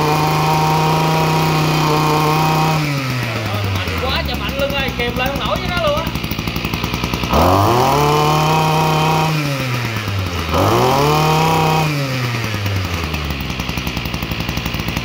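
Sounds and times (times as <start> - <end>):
brush cutter engine idling and revving: 0.0 - 15.0.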